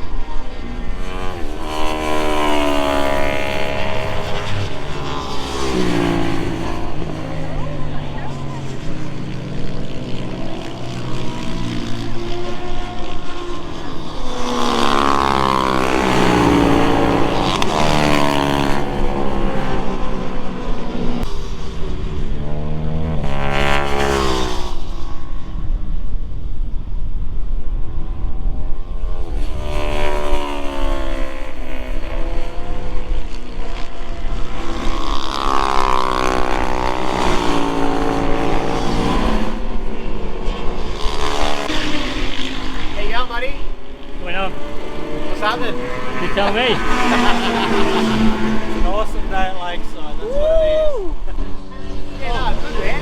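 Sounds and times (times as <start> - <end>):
motorcycle engine revving: 0.0 - 50.3, 51.1 - 53.0.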